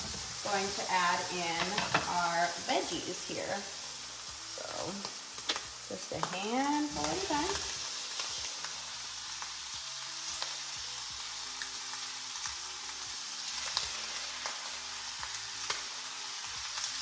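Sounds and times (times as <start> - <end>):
vegetables clicking and scraping in pan: 0.0 - 3.2, 3.8 - 17.0
ham sizzling in a frying pan: 0.0 - 17.0.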